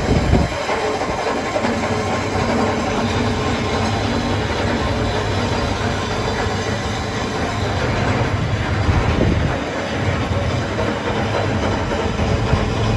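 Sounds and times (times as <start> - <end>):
mechanical rumble with low hum: 0.0 - 12.9.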